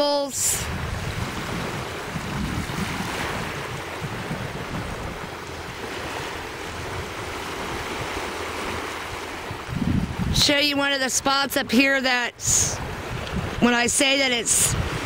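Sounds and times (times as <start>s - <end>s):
small surf on beach: 0.0s - 15.0s
wind buffeting microphone: 0.0s - 15.0s.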